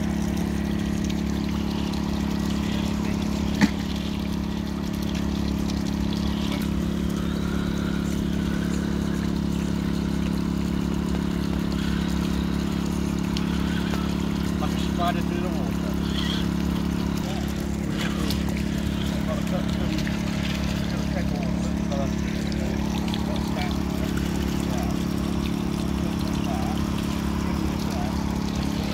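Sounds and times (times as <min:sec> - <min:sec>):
portable generator humming: 0:00.0 - 0:28.9
water running over waterfall: 0:00.0 - 0:28.9.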